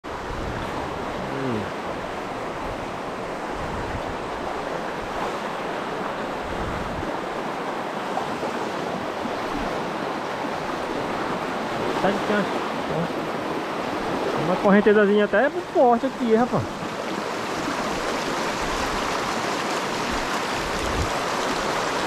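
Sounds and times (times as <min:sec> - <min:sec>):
river rushing over rocks: 0:00.1 - 0:22.0.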